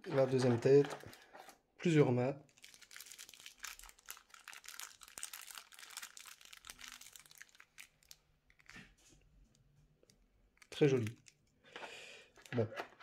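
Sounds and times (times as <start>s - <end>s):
packaging crinkling and rustling: 0.0s - 1.6s, 2.4s - 9.2s, 10.0s - 13.0s.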